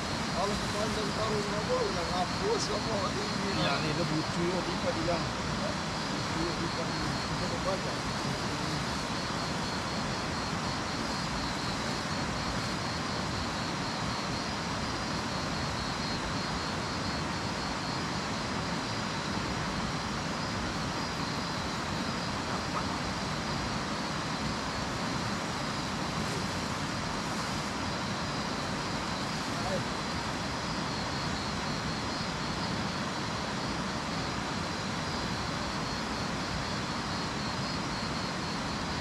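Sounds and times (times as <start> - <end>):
flooded river rushing: 0.0 - 39.0.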